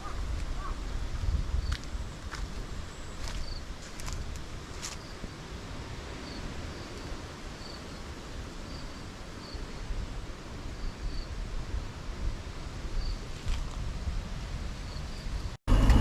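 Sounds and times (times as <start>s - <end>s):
wind rumbling on microphone: 0.0s - 8.2s, 9.7s - 16.0s.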